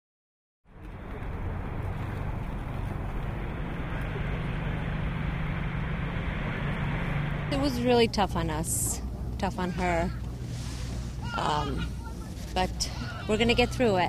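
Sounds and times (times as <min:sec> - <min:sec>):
faint hum: 0:00.7 - 0:14.0
low rumble and hiss: 0:00.7 - 0:14.0.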